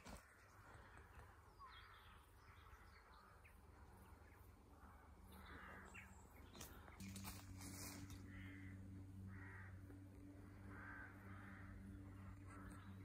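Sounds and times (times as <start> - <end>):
distant crows cawing: 0.0 - 13.0.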